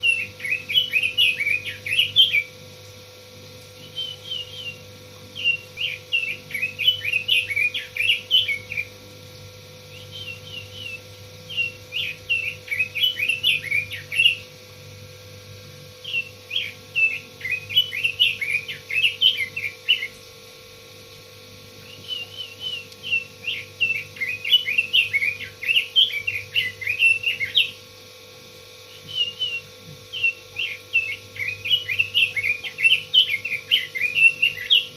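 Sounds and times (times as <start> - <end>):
bird warbling song: 0.0 - 2.6, 3.6 - 14.5, 16.0 - 20.4, 21.8 - 27.8, 28.9 - 34.9
faint steady hum: 0.0 - 34.9.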